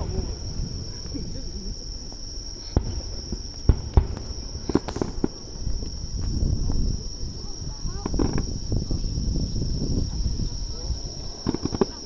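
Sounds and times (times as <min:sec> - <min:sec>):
distant fireworks booming: 0:00.0 - 0:12.0
insects chirring: 0:00.0 - 0:12.0.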